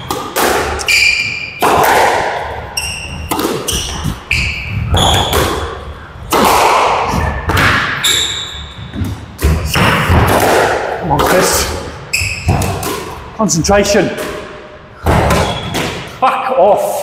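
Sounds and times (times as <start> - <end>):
squash ball hitting rackets and walls: 0.0 - 16.2.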